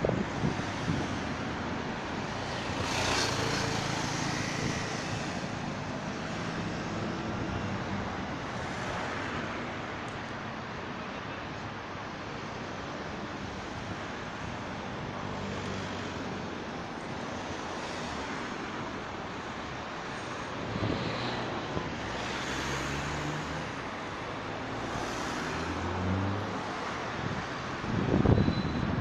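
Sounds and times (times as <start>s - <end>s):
car engines and tyre noise: 0.0s - 29.0s
vehicles passing: 0.0s - 29.0s.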